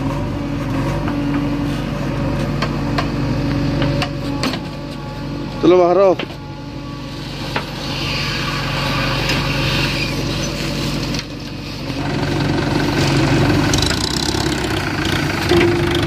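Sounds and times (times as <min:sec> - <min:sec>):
diesel engine running: 0:00.0 - 0:16.0
hydraulics whining: 0:00.0 - 0:16.0.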